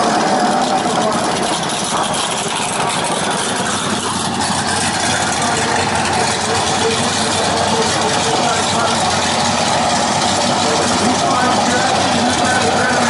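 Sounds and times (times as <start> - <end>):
car engines idling roughly: 0.0 - 13.0.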